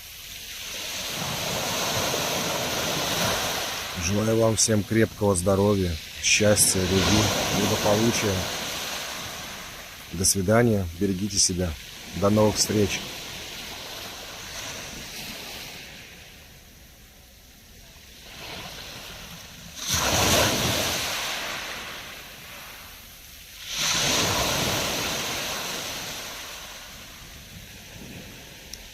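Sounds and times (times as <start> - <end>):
waves crashing on shore: 0.0 - 28.9.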